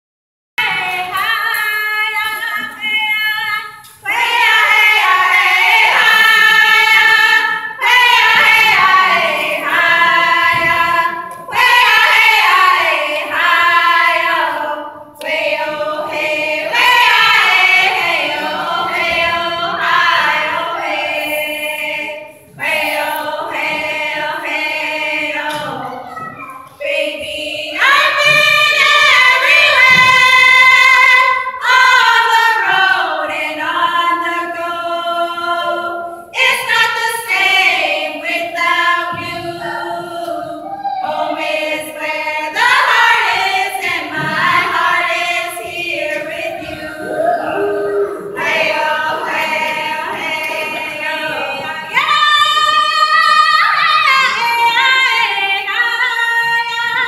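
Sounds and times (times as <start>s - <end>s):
women singing together: 0.6s - 57.0s.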